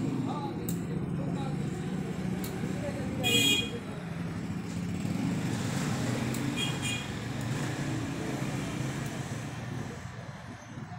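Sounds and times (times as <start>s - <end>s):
engine rumble: 0.0s - 10.9s.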